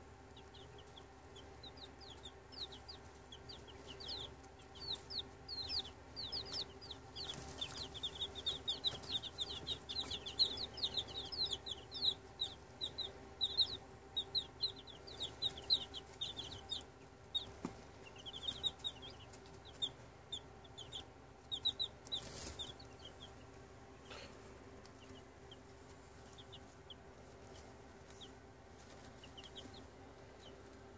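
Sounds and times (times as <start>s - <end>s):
baby chicks peeping: 0.0s - 30.9s
faint steady hum: 0.0s - 30.9s.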